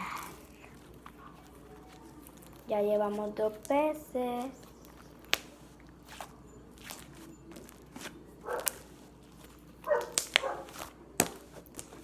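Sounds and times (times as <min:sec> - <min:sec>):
slime squishing: 0:00.0 - 0:12.0.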